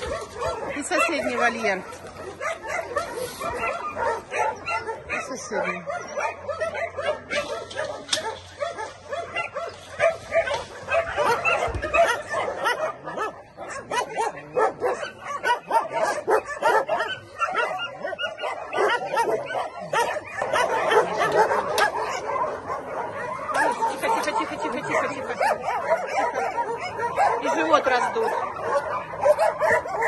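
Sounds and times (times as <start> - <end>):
dogs barking and yelping: 0.0 - 30.0.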